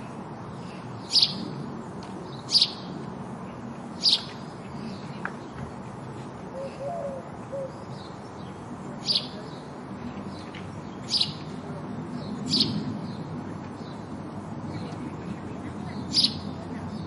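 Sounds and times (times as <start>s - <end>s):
steady low background noise: 0.0s - 17.0s
sparrow chirping: 0.4s - 1.6s, 2.2s - 5.2s, 6.6s - 17.0s.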